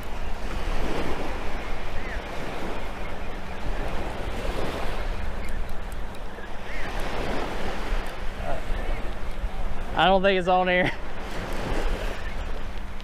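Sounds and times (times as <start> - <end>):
small surf waves washing on sand: 0.0 - 13.0
wind rumbling on microphone: 0.0 - 13.0.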